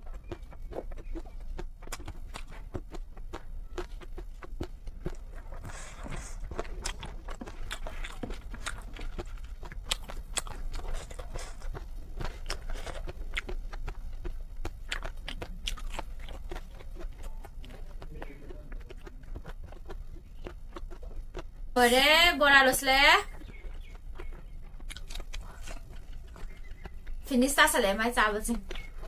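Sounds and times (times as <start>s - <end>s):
person chewing noodles: 0.0s - 21.8s, 23.2s - 27.3s, 28.5s - 29.0s.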